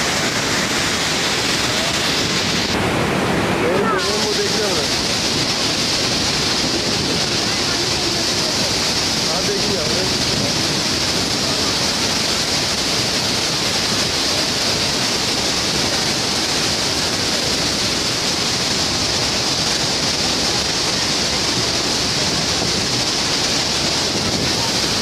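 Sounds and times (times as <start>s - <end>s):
floodwater rushing through spillway: 0.0s - 25.0s.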